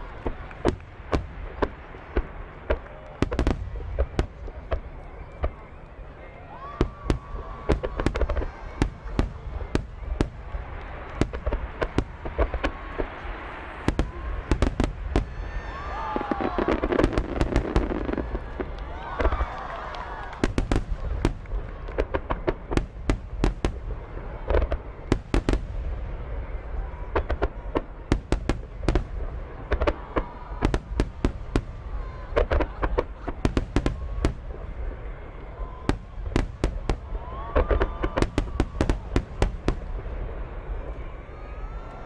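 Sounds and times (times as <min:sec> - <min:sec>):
fireworks bangs and crackles: 0:00.0 - 0:42.0.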